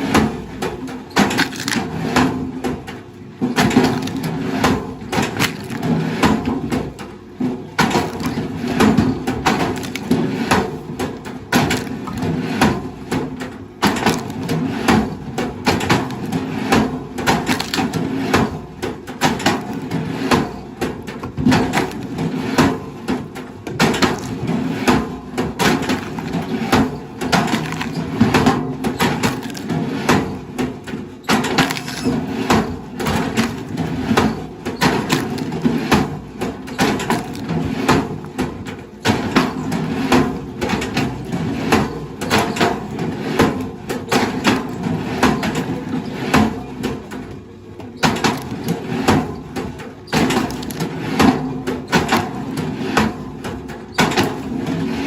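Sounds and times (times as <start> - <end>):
wood cracking and splintering: 0.1 - 42.8, 48.0 - 52.5.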